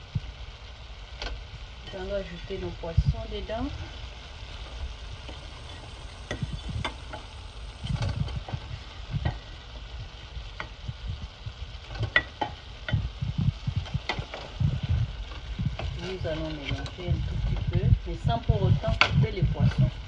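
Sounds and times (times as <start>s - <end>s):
sauce sizzling in a pot: 0.0s - 20.0s.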